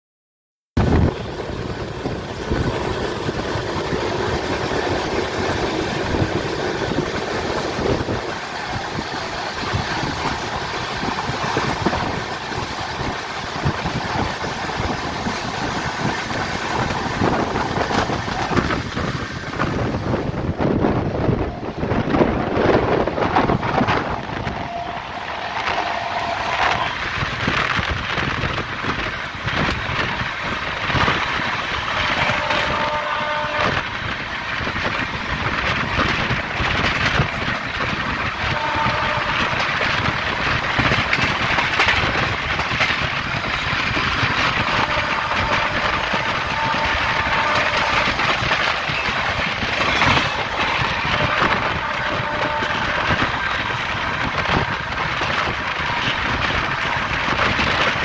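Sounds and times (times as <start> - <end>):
train clattering over track: 0.8 - 58.0
train wheels rumbling on rails: 0.8 - 58.0.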